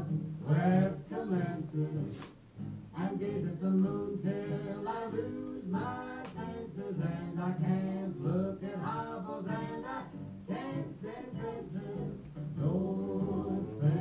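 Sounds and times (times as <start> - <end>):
person singing: 0.0 - 2.3, 3.0 - 14.0
plucked guitar: 0.0 - 14.0.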